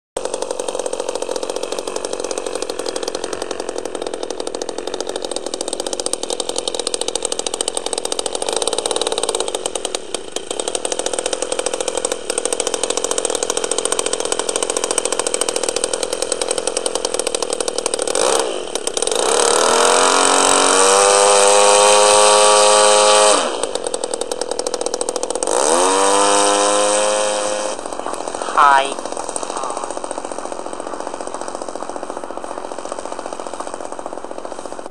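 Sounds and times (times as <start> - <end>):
model plane engine revving: 0.2 - 34.9.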